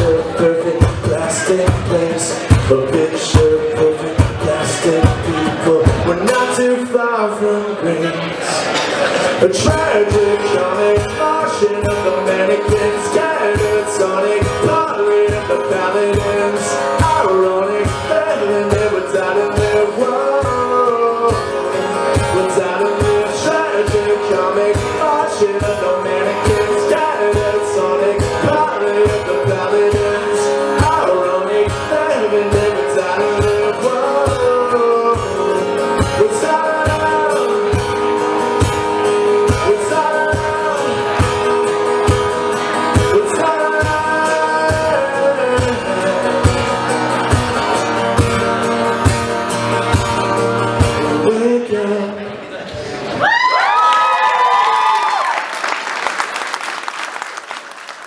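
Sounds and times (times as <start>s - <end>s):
acoustic guitar strumming: 0.0s - 52.3s
man singing: 0.0s - 52.6s.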